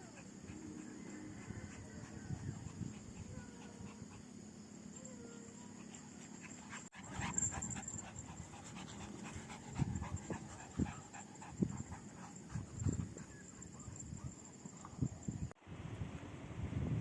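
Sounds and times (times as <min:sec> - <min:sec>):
animal panting: 0:00.0 - 0:15.2.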